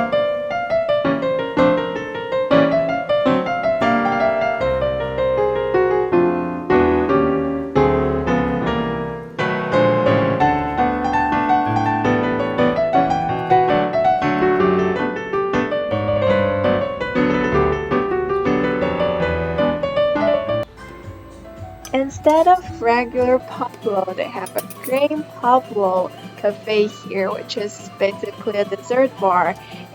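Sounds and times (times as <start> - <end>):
solo piano melody: 0.0 - 29.9.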